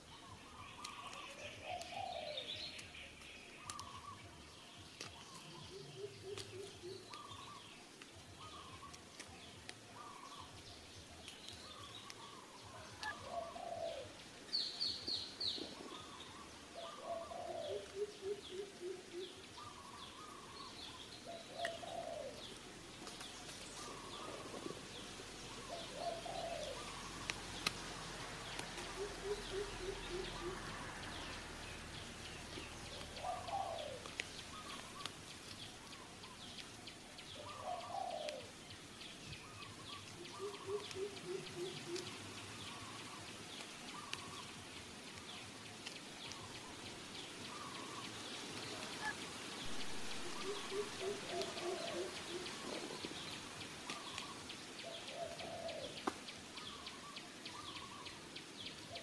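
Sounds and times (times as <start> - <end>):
birds calling: 0.0 - 59.0.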